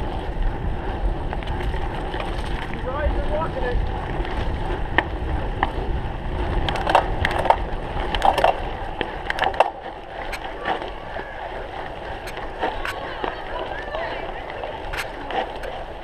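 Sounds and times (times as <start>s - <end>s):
bike rattling over rough ground: 0.0s - 16.0s
wind rumble on microphone: 0.0s - 16.0s.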